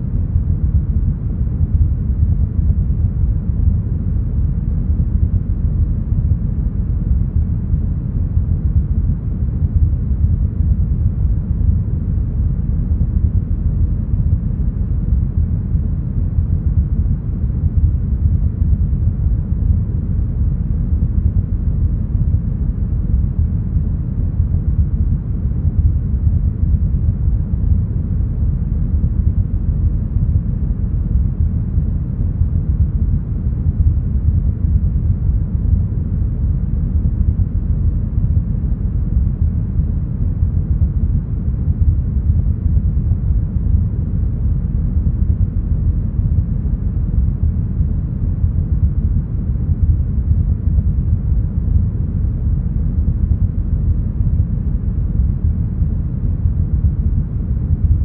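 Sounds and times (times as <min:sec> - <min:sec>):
low brown noise hiss: 0:00.0 - 0:58.0.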